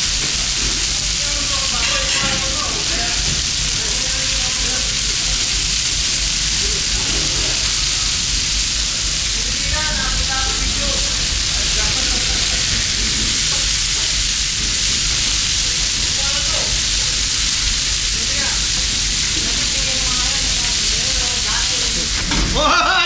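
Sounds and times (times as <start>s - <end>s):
fish sizzling on a griddle: 0.0s - 23.0s.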